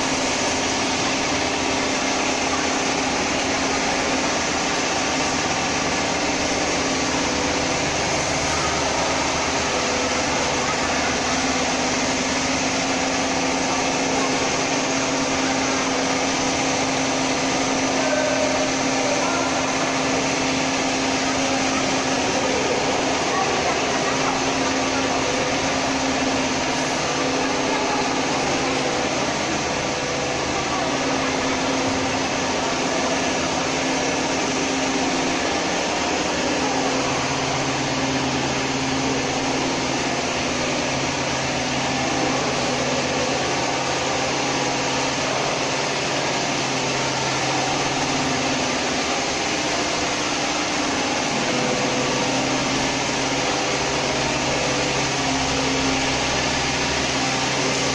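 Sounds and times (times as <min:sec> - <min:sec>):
deep machinery hum: 0:00.0 - 0:57.9
factory machinery hiss: 0:00.0 - 0:57.9
low machinery drone: 0:00.0 - 0:57.9.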